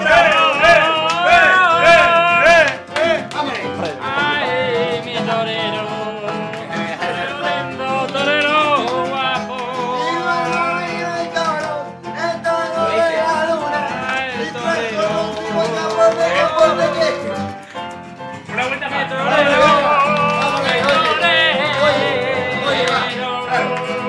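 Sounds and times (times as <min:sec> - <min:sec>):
man singing: 0:00.0 - 0:17.6, 0:18.5 - 0:24.0
guitar: 0:00.0 - 0:24.0
hand clapping: 0:00.0 - 0:24.0.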